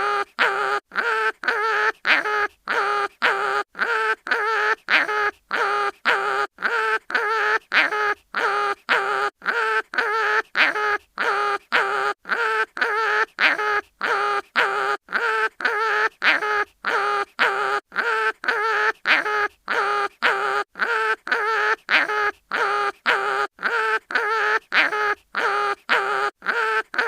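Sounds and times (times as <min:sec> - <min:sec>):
cartoon animal crying in pain: 0:00.0 - 0:27.0.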